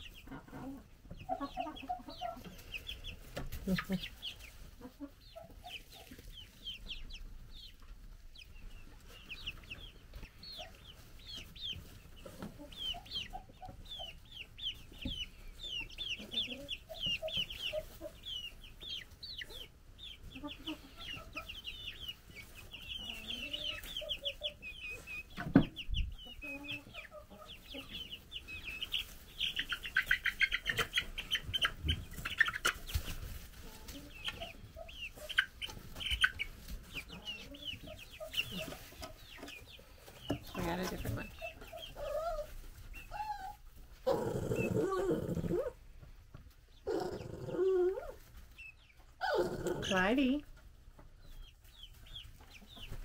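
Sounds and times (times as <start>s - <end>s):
chicks peeping: 0.0s - 53.0s.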